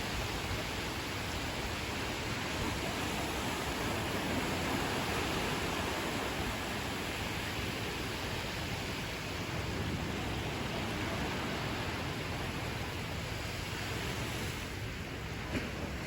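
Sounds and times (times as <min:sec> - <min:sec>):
ocean surf hiss: 0:00.0 - 0:16.0.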